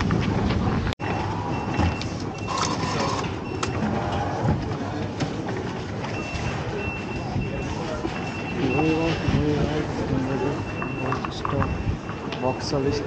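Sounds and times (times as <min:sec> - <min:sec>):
crowd noise: 0:00.3 - 0:13.0
distant voices: 0:01.0 - 0:13.0.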